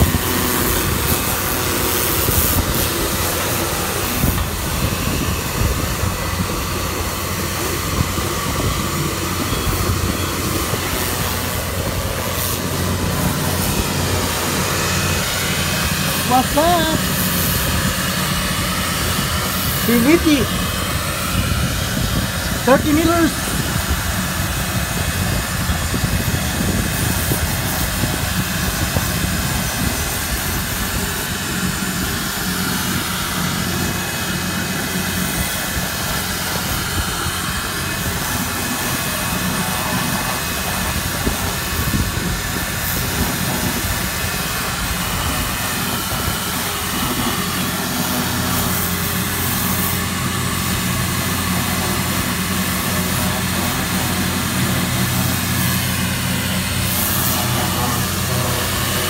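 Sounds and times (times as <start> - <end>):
pressure washer pump humming: 0.0 - 59.0
water jet hissing: 0.0 - 59.0.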